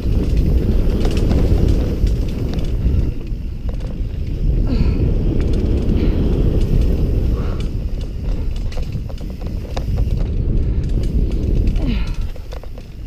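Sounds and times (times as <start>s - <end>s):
bike chain rattling: 0.0s - 13.0s
wind rumble on microphone: 0.0s - 13.0s.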